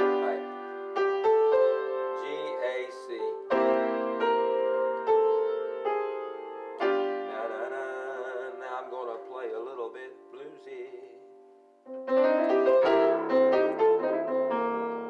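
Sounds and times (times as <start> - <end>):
slow blues piano: 0.0 - 15.0.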